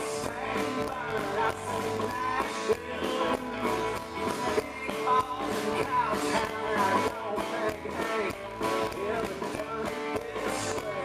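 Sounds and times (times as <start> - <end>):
electric guitar: 0.0 - 11.0
live country-rock band: 0.0 - 11.0.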